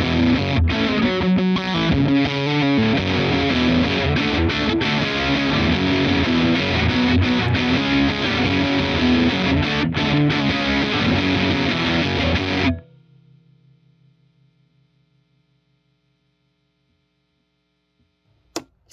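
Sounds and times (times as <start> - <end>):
distorted electric guitar: 0.0 - 16.4
faint amplifier hum: 0.0 - 18.9.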